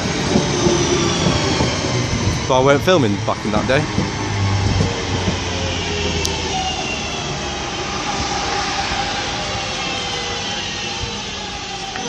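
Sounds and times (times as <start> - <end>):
electric train motors whining: 0.0 - 12.0.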